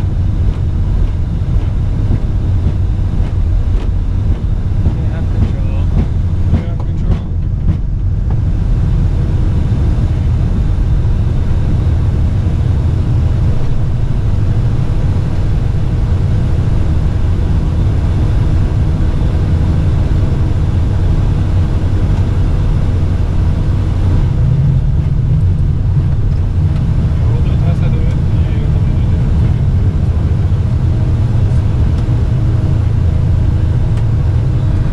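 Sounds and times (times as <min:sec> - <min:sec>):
aircraft cockpit rumble: 0:00.0 - 0:34.9.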